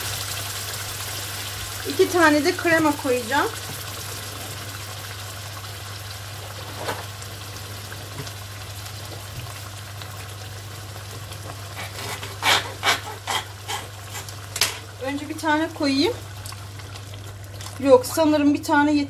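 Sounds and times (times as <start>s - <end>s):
sauce sizzling hiss: 0.0s - 17.9s.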